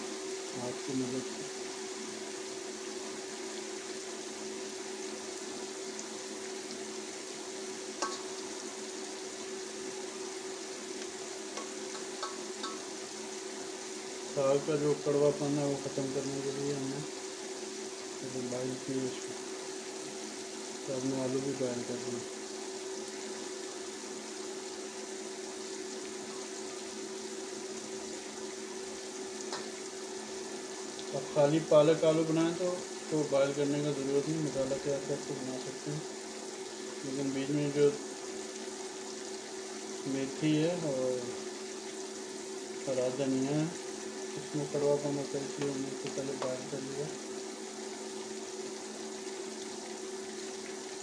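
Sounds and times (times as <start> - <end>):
onions sizzling in oil: 0.0 - 51.0
constant hum: 4.8 - 51.0.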